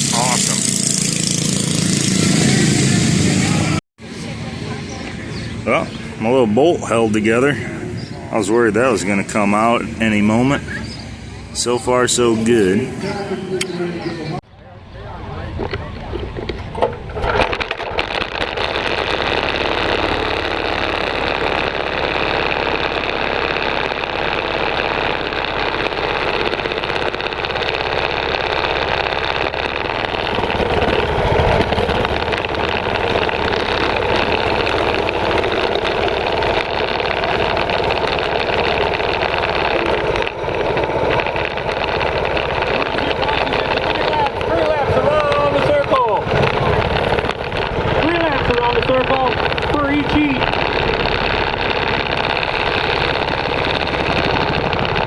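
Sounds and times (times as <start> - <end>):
mini bike engine running: 0.0 - 14.0, 15.0 - 55.0.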